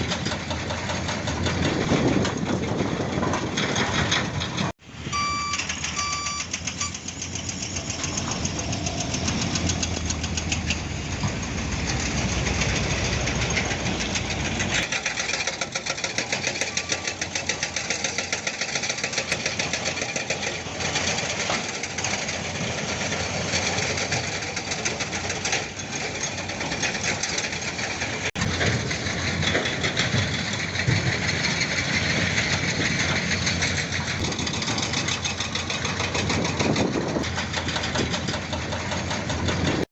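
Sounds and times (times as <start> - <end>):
deep machinery rumble: 0.0 - 39.9
diesel machinery knocking: 0.0 - 39.9.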